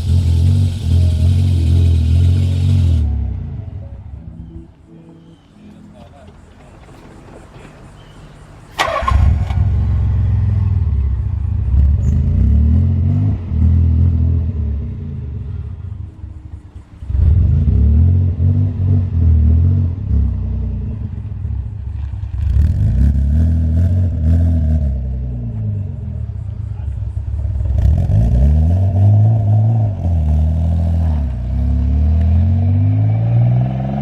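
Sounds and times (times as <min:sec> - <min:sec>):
car engine revving: 0:00.0 - 0:04.0, 0:08.8 - 0:15.9, 0:16.8 - 0:34.0.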